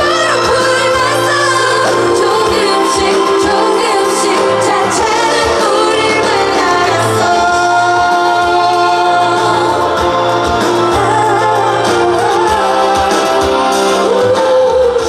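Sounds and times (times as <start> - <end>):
band with bass and drums: 0.0 - 15.0
woman singing: 0.0 - 15.0.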